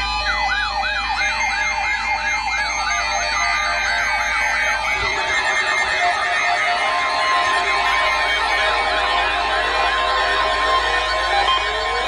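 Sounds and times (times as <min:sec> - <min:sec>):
electronic alert siren sweeping down: 0:00.0 - 0:12.0.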